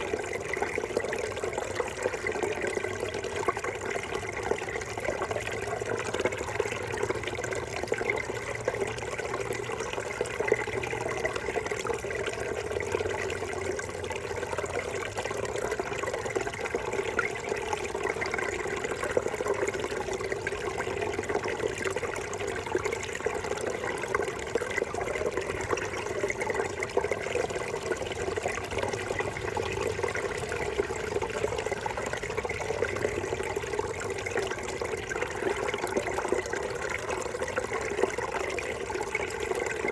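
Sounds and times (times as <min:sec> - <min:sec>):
brook babbling over rocks: 0:00.0 - 0:39.9.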